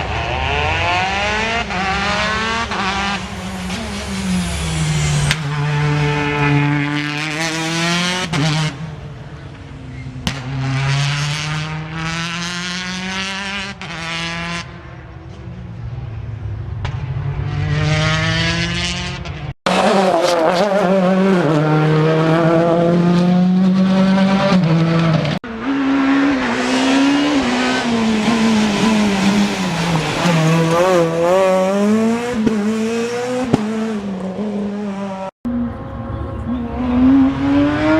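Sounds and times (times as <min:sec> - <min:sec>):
car at high revs: 0:00.0 - 0:09.0, 0:09.9 - 0:14.9, 0:16.8 - 0:35.4, 0:36.0 - 0:37.9
rally car engines accelerating: 0:00.0 - 0:37.9.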